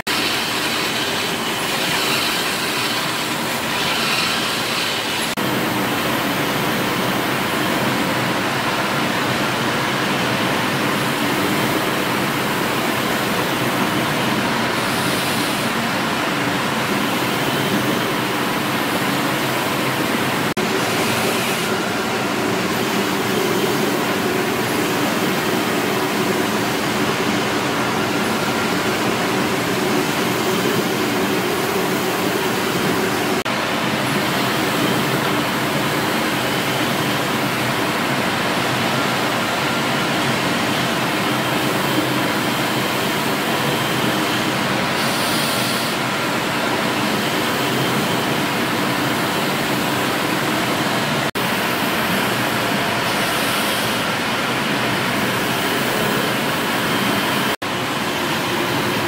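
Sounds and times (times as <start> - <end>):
steam engine hiss: 0.0 - 8.1, 11.0 - 37.8, 41.3 - 59.0.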